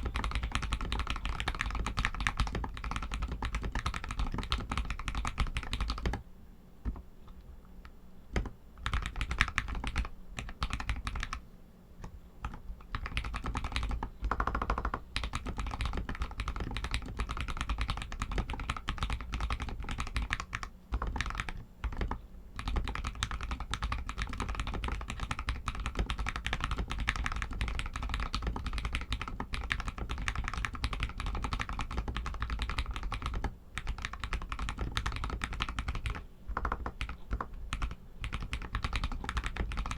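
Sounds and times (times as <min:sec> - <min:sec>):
mechanical keyboard typing: 0:00.0 - 0:06.2, 0:08.3 - 0:11.4, 0:12.0 - 0:39.9.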